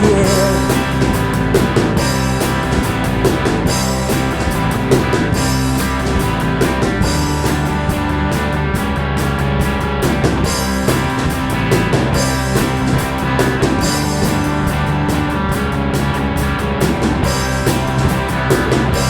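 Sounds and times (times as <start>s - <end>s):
bass guitar: 0.0s - 19.0s
drum kit beat: 0.0s - 19.0s
electric guitars: 0.0s - 19.0s.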